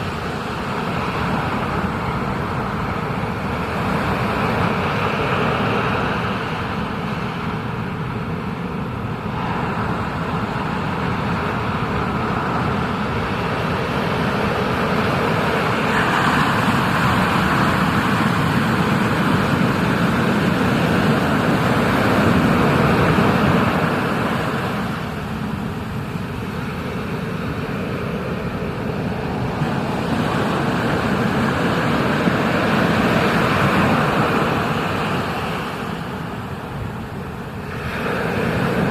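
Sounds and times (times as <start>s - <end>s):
ocean surf rushing: 0.0s - 38.9s.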